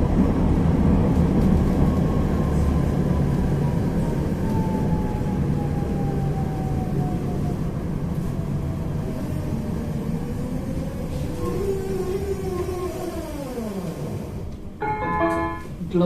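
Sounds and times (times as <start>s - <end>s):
tram rumbling on rails: 0.0s - 16.0s.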